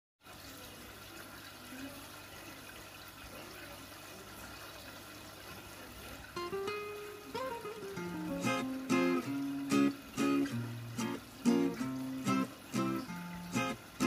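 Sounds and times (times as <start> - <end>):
aquarium water rushing: 0.2 - 14.0.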